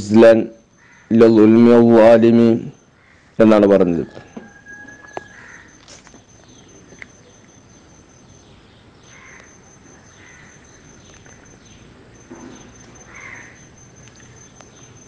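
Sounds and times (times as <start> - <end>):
faint bird calls: 0.6 - 15.0.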